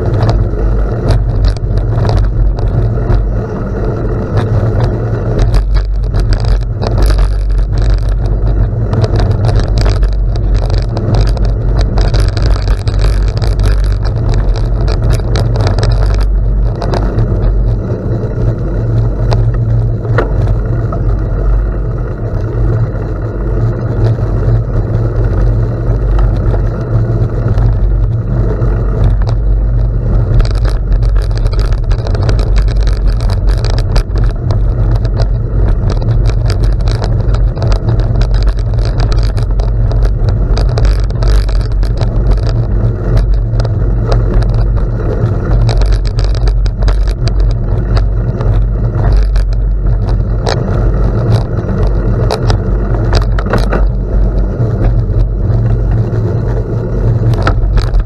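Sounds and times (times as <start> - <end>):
tyres crunching over gravel: 0.0 - 58.0
wind rumble on microphone: 0.0 - 58.0.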